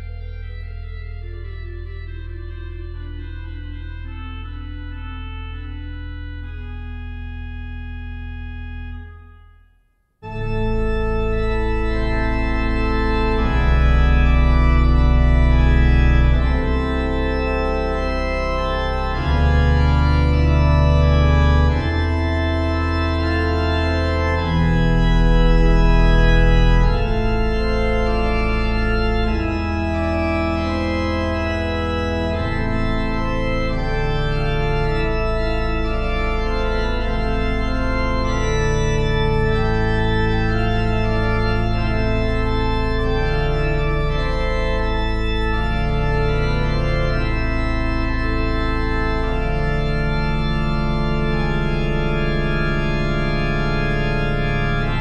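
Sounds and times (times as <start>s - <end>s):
organ playing chords: 0.0s - 55.0s.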